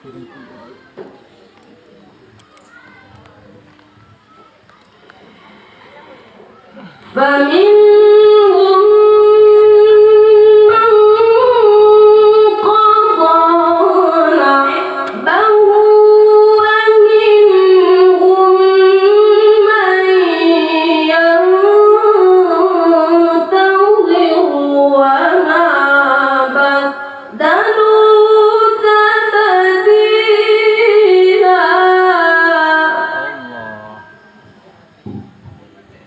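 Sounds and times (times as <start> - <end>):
boy chanting recitation: 2.3 - 35.4.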